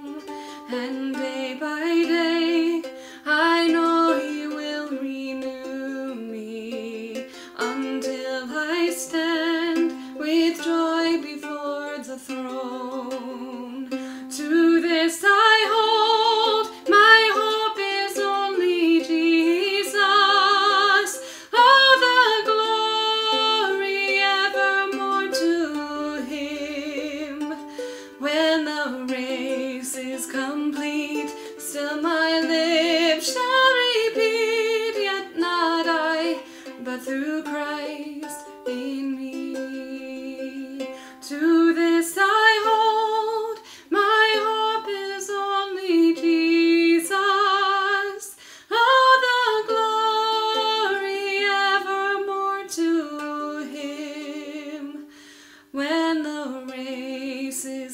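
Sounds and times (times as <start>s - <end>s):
strummed ukulele: 0.0s - 57.9s
woman singing with vibrato: 0.0s - 57.9s.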